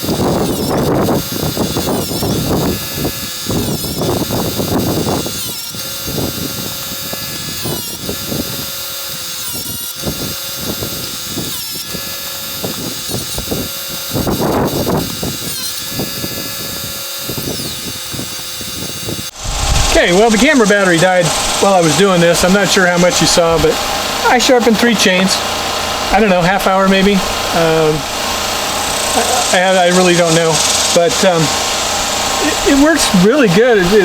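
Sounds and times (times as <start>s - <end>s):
chain sharpener grinding: 0.0s - 34.0s.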